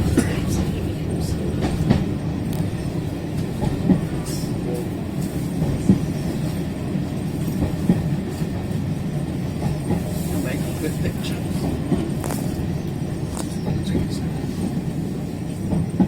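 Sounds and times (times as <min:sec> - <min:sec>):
railway carriage rumbling on track: 0:00.0 - 0:16.0
train wheels knocking: 0:00.0 - 0:16.0.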